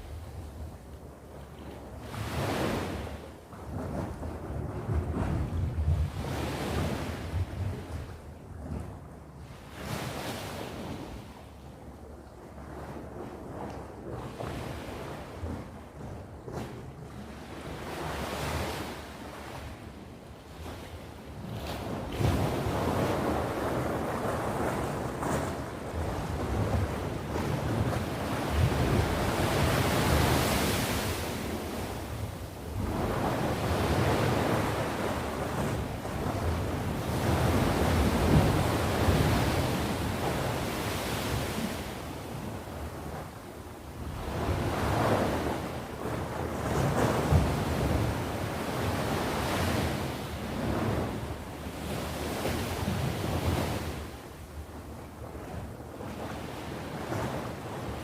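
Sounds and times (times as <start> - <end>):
wind buffeting microphone: 0.0 - 9.8, 20.6 - 58.0
sea waves breaking on shore: 1.4 - 8.0, 12.8 - 58.0.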